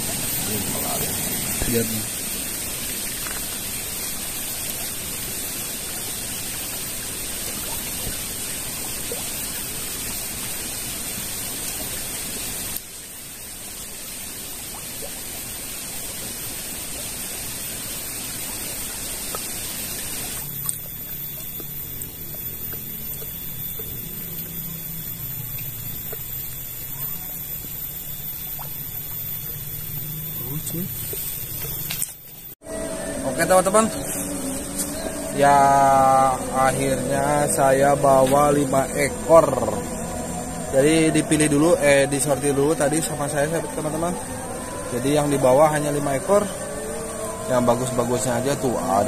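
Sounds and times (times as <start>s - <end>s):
stream flowing: 0.0s - 49.0s.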